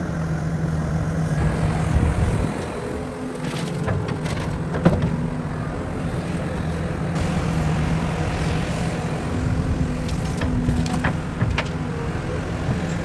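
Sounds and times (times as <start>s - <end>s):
heavy machine engine running: 0.7s - 13.0s.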